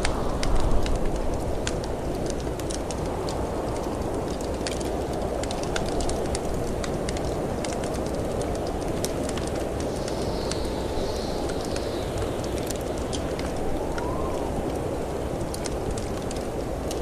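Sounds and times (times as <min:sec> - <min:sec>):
snowstorm wind rushing: 0:00.0 - 0:17.0
wood fire crackling and popping: 0:00.0 - 0:17.0.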